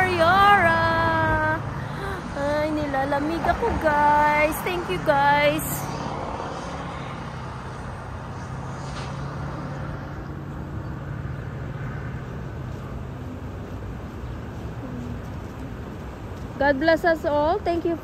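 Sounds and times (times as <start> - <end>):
vehicle engine hum: 0.0 - 18.0
steady rushing background: 0.6 - 16.6.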